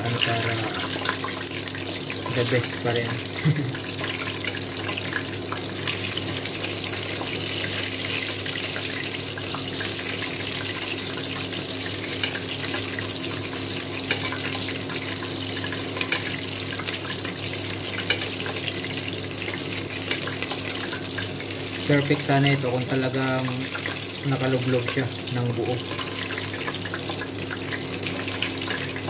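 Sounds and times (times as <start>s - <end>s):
chicken sizzling in hot oil: 0.0s - 29.0s
hot oil popping: 0.0s - 29.0s.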